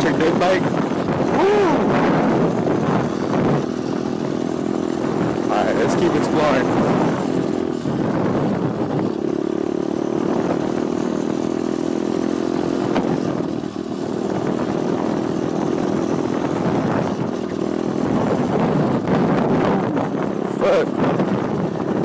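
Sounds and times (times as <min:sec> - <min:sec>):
pit bike engine running: 0:00.0 - 0:22.0.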